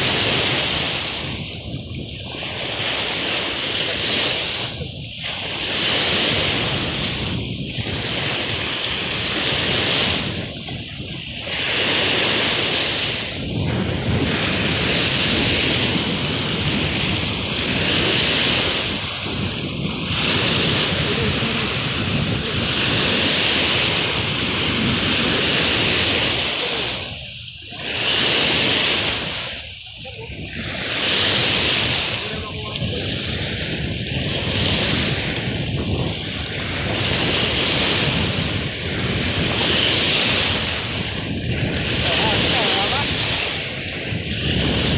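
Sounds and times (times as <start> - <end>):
lake waves washing on shore: 0.0 - 44.9
wind buffeting microphone: 0.0 - 44.9.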